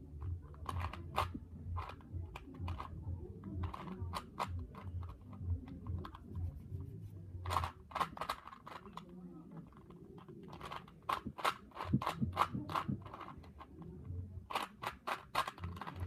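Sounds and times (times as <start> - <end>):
puzzle cube clicking: 0.2 - 6.4, 7.4 - 16.0.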